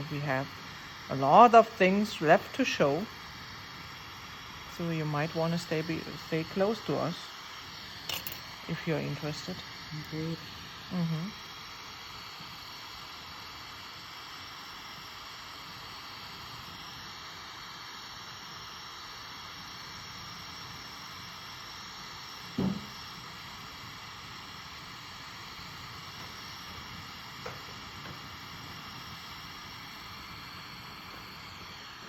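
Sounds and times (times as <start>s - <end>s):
torch flame hissing: 0.0s - 32.0s.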